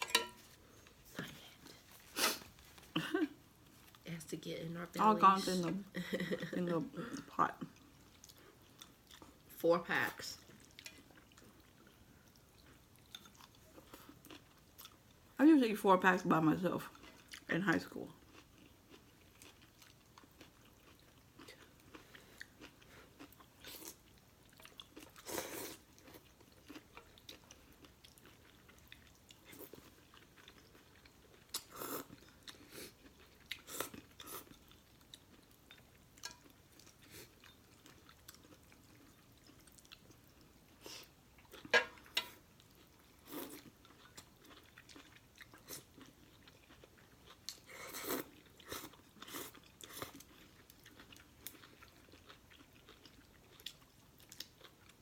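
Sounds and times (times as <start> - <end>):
wet chewing of noodles: 5.0 - 9.6, 10.2 - 15.4, 16.8 - 17.5, 18.1 - 55.0.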